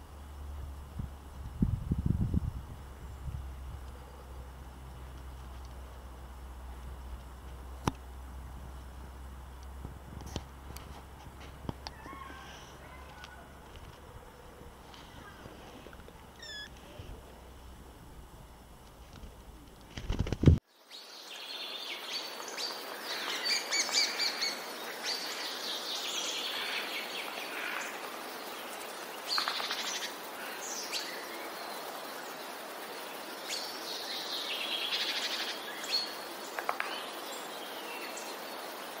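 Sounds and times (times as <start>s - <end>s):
faint hiss: 0.0s - 39.0s.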